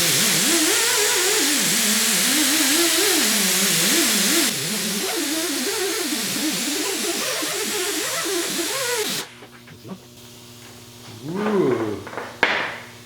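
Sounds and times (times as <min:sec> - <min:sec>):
power tool motor whirring: 0:00.0 - 0:11.1
polishing pad hissing on metal: 0:00.0 - 0:13.0.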